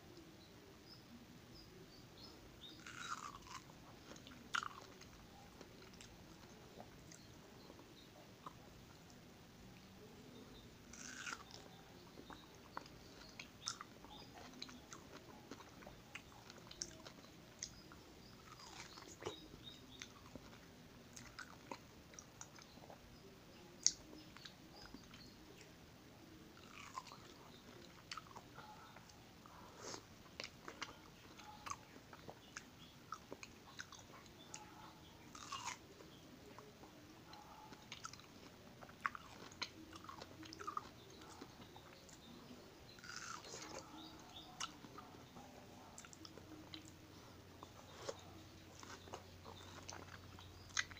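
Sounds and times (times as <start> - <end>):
man chewing with wet clicks: 2.6 - 25.8, 26.5 - 50.9.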